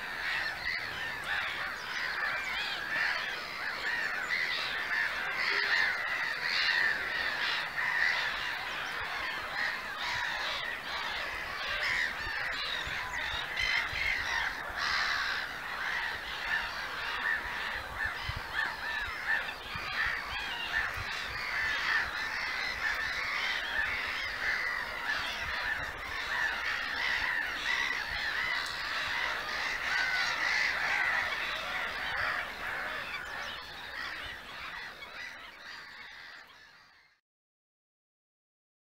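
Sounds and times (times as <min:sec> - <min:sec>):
gull colony calling: 0:00.0 - 0:37.1.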